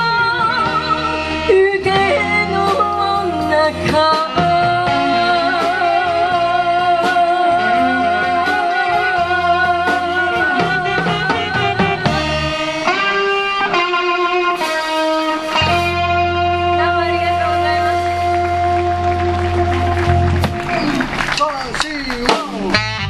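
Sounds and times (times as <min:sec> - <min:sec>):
bass: 0:00.0 - 0:23.0
drums: 0:00.0 - 0:23.0
electric guitar: 0:00.0 - 0:23.0.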